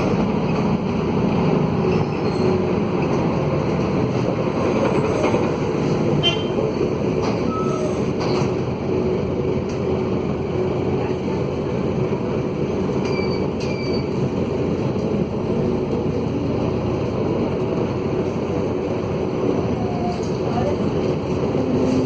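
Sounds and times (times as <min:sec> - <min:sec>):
diesel bus engine rumbling: 0:00.0 - 0:22.0.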